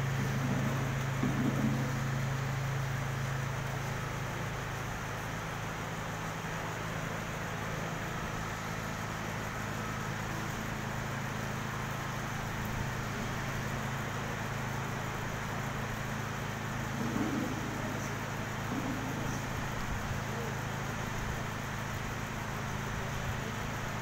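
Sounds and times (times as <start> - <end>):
low hum with hiss: 0.0 - 24.0.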